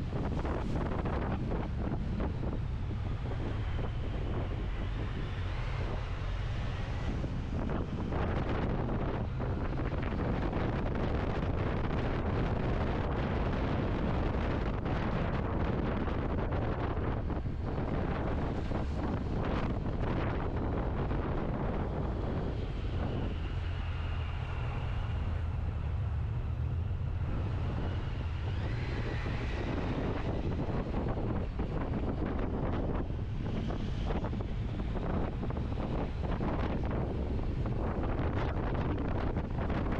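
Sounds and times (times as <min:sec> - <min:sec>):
faint whine: 0:00.0 - 0:39.9
wind buffeting microphone: 0:00.0 - 0:39.9.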